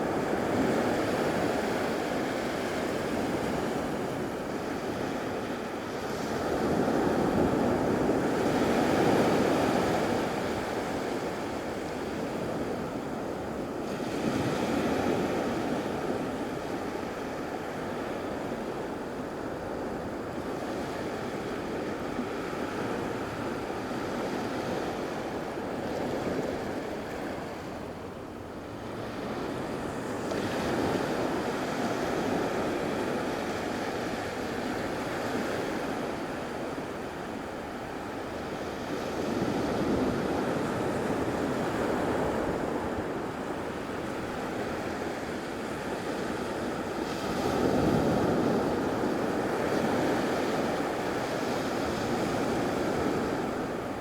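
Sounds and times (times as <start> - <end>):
waves breaking on beach: 0.0 - 54.0
wind on microphone: 0.0 - 54.0.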